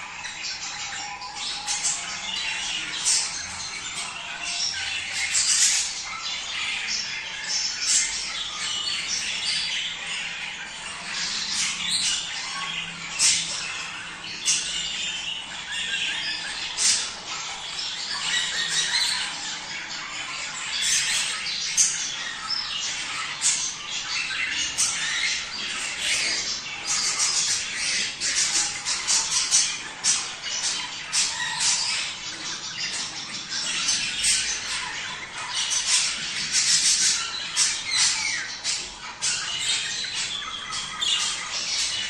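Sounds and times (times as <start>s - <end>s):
budgerigars warbling and chirping: 0.0s - 42.0s.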